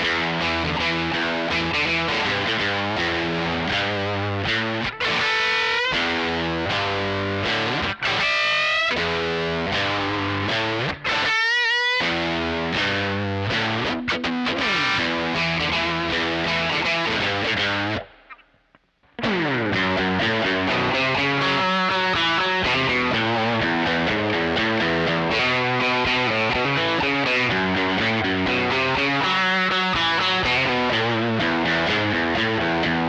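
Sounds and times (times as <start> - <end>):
fuzzy electric guitar: 0.0 - 33.0.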